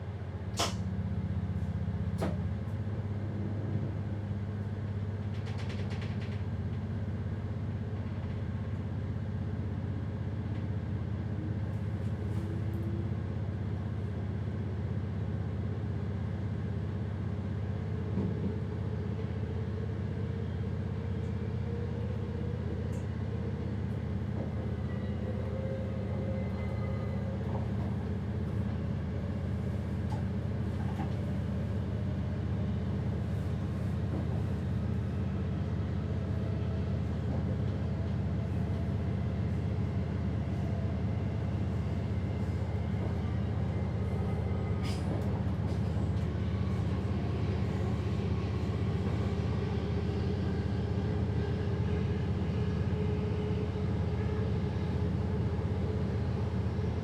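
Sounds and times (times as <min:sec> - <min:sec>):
train rumbling from inside cab: 0:00.0 - 0:57.0.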